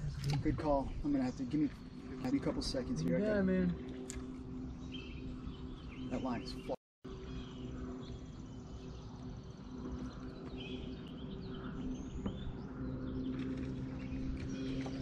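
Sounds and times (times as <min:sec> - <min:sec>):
birds chirping: 0:00.0 - 0:15.0
low hum: 0:00.0 - 0:15.0.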